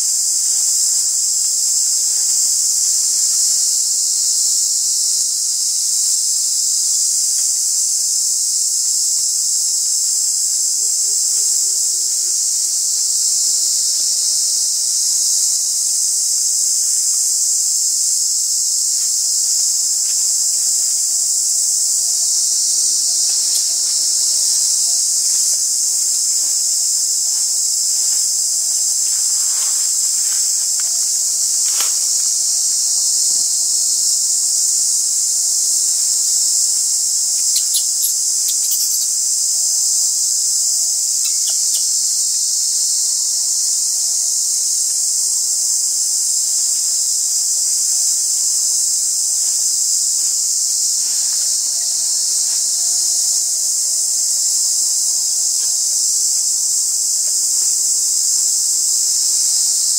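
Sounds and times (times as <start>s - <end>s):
insect chorus droning: 0.0s - 59.9s.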